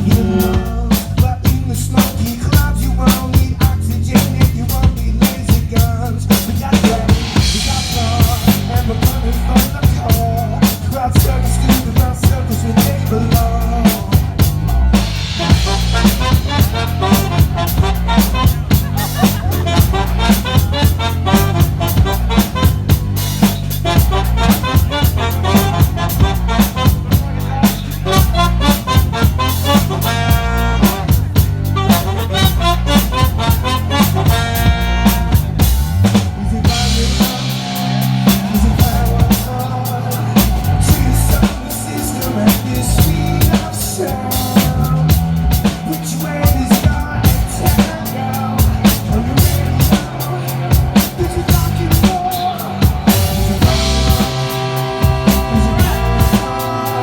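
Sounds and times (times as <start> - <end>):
live band playing: 0.0 - 57.0
low bass notes: 0.0 - 57.0.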